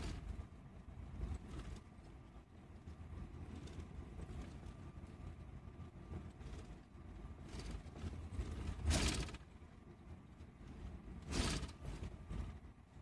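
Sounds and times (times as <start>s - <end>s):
road rumble inside a moving coach: 0.0s - 13.0s.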